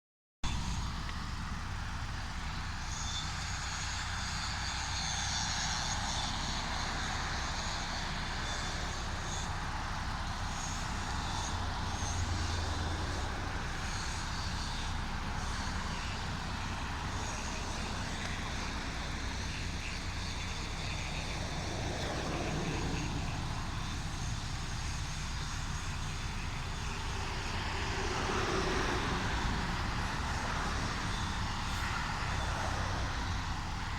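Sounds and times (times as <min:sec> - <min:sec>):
distant traffic rumble: 0:00.4 - 0:33.9.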